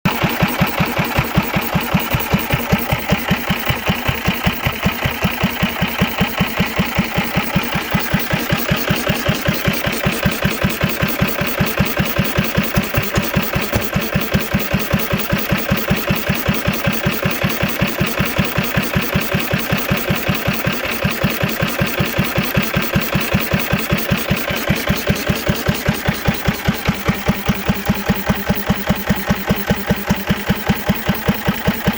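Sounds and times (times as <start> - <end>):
stationary engine chugging: 0.0 - 31.9.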